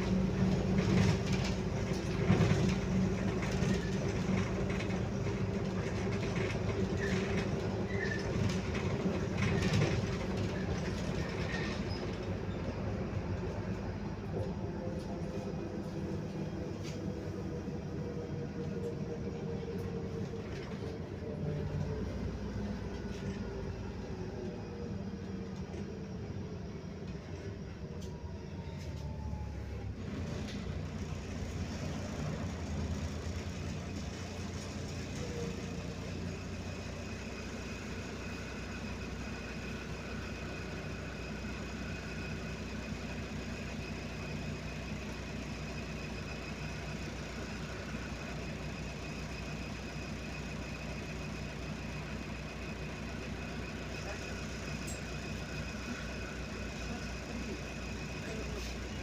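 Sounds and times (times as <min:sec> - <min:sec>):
bus drivetrain whine: 0:00.0 - 0:59.0
bus engine running: 0:00.0 - 0:59.0.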